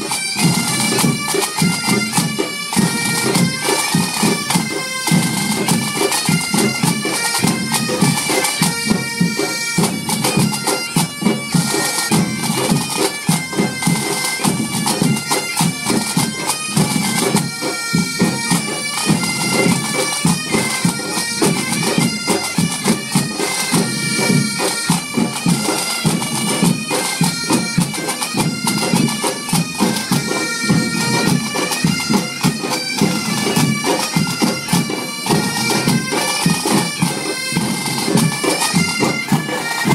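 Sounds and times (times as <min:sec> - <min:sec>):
bagpipes playing melody: 0:00.0 - 0:39.9
drums beating: 0:00.0 - 0:39.9.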